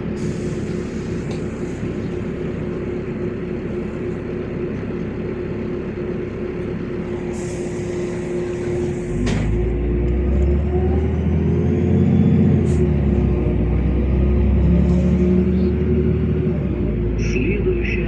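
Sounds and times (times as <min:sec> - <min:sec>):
bus engine idling: 0:00.0 - 0:18.0.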